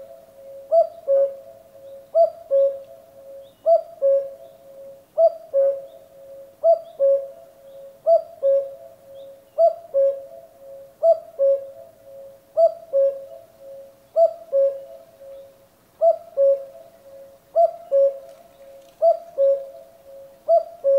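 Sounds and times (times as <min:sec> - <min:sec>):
cuckoo calling: 0:00.0 - 0:20.9.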